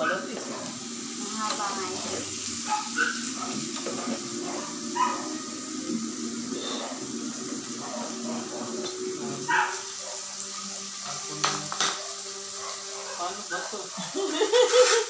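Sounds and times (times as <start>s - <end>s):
meat sizzling on a grill plate: 0.0s - 15.0s.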